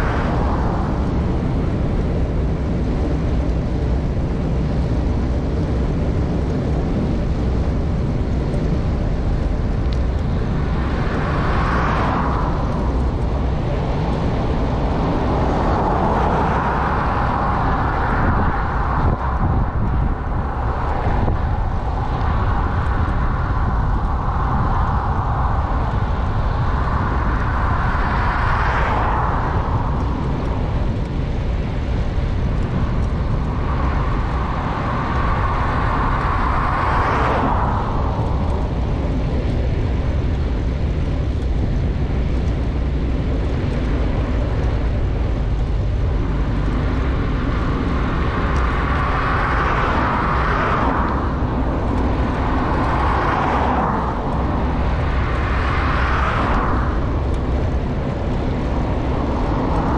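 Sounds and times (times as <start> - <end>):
road and tyre hiss: 0.0 - 59.9
wind rumble on microphone: 0.0 - 59.9.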